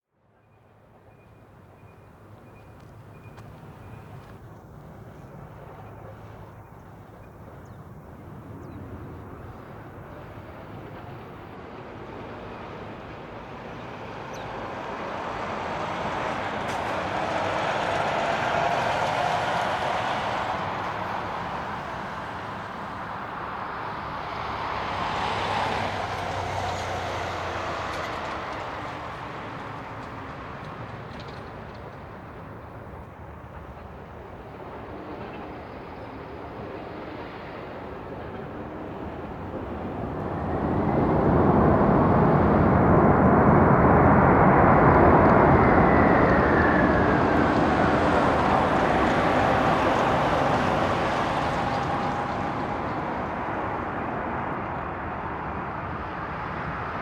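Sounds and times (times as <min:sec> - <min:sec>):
jet engines rumbling: 0:01.4 - 0:57.0.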